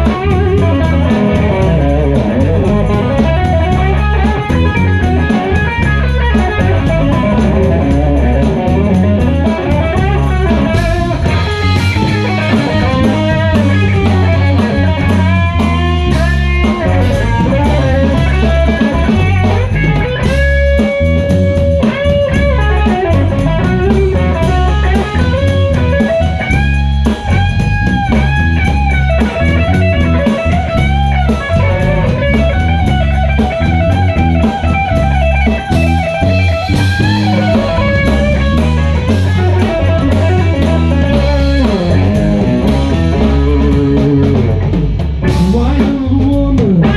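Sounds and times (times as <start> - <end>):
blues-rock band playing: 0.0 - 46.9
electric guitar bending notes: 0.0 - 46.9.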